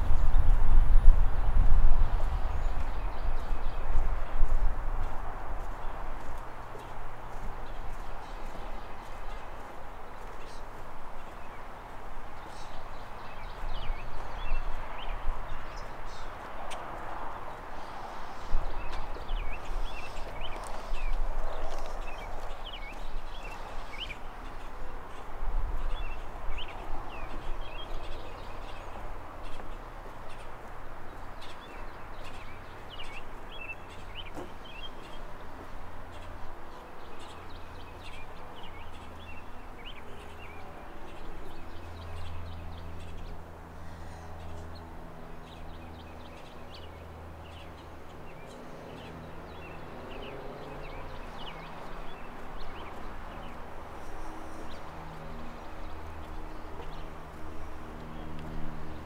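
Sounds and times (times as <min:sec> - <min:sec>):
outdoor background noise: 0:00.0 - 0:59.0
small birds chirping: 0:01.6 - 0:59.0.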